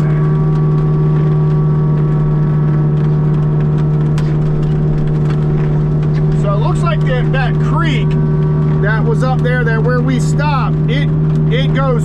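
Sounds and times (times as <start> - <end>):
mini excavator mulcher droning: 0.0 - 12.0.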